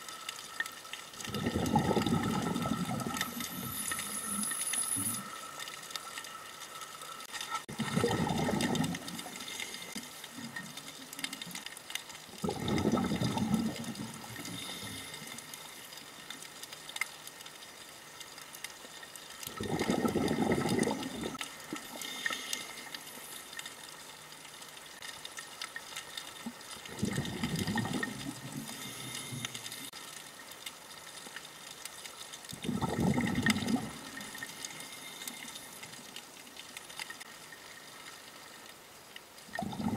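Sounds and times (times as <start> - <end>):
faint underwater crackle: 0.0 - 39.9
scuba regulator bubbles underwater: 0.0 - 39.9.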